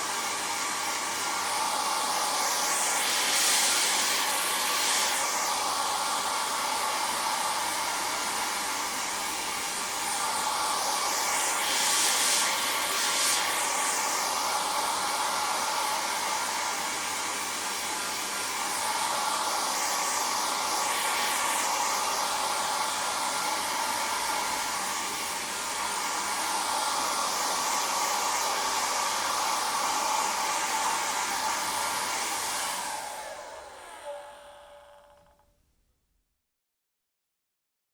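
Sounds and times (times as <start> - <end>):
hair dryer running: 0.0 - 35.6
hair dryer winding down: 0.0 - 35.8.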